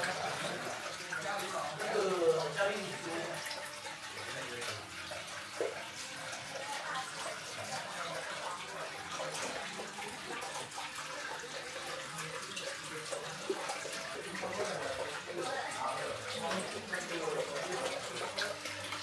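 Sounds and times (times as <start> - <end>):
water trickling over pebbles: 0.0 - 19.0.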